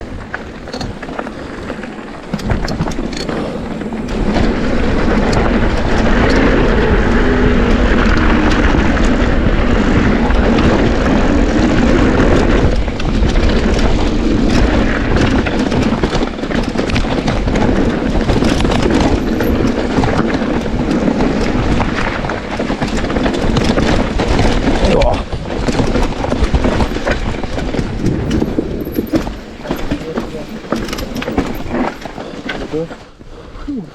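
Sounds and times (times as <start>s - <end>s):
bike clicks and rattles: 0.0s - 33.1s
tyre noise on dirt: 0.0s - 33.9s
wind rush on microphone: 0.0s - 33.9s.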